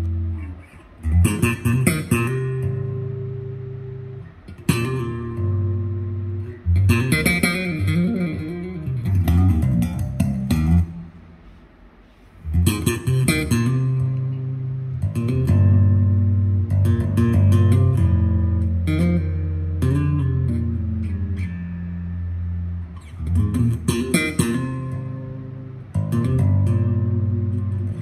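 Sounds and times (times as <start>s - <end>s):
music with bass and guitar: 0.0s - 28.0s.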